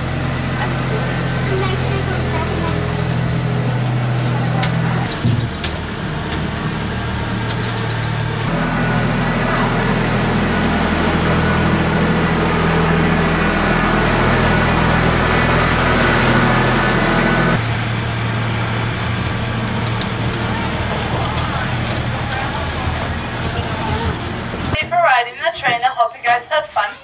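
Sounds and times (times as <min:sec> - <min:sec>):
tour train engine running: 0:00.0 - 0:27.0.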